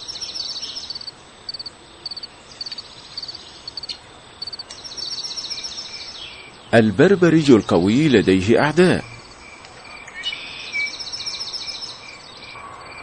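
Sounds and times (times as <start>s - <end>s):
cricket chirping: 0.0s - 13.0s
outdoor ambient hiss: 0.0s - 13.0s.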